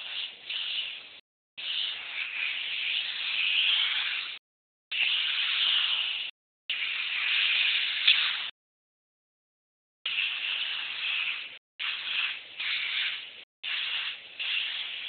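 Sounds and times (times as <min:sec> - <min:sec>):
airbrush air hiss: 0:00.0 - 0:08.5, 0:10.1 - 0:15.0.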